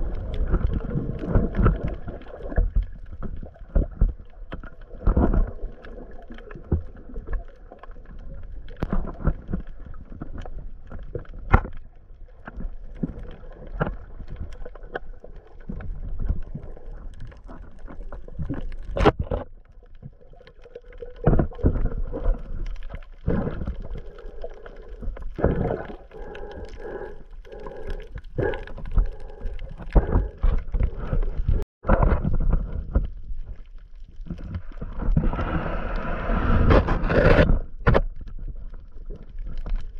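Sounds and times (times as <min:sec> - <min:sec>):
underwater knocks and bumps: 0:00.0 - 0:26.8, 0:27.5 - 0:35.6, 0:36.4 - 0:39.9
water moving against camera: 0:00.0 - 0:39.9.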